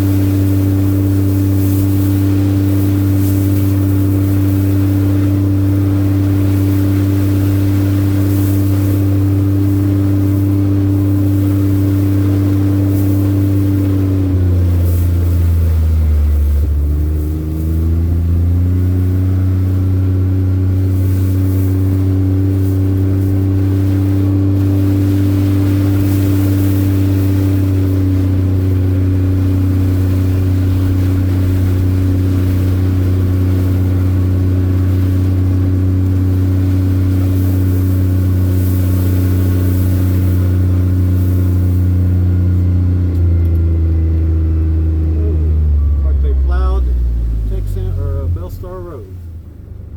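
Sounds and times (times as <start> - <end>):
engine humming: 0.0 - 49.9.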